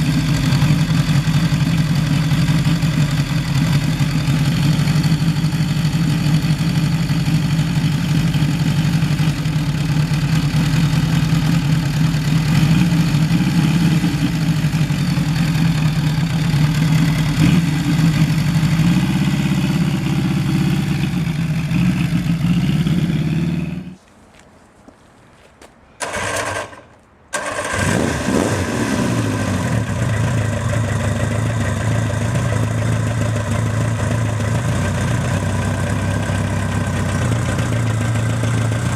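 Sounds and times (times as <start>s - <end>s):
motorcycle engine idling: 0.0s - 24.0s, 29.6s - 38.9s.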